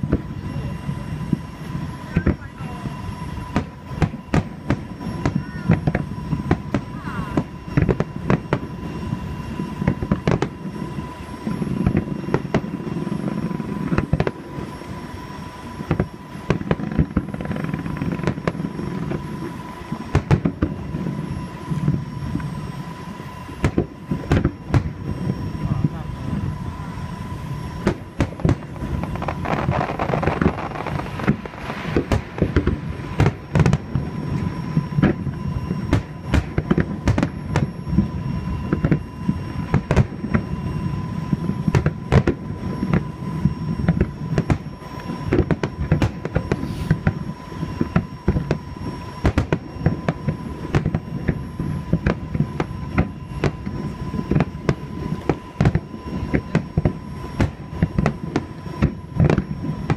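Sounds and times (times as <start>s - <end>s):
fireworks bursts and cracks: 0.0s - 14.9s, 15.8s - 26.4s, 27.8s - 59.9s
steady low rumble: 0.0s - 59.9s.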